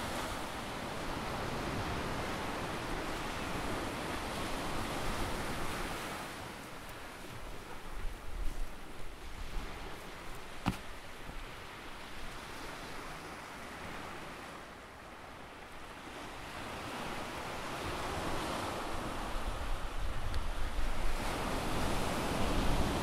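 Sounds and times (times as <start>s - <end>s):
surf washing up a sandy beach: 0.0s - 23.0s.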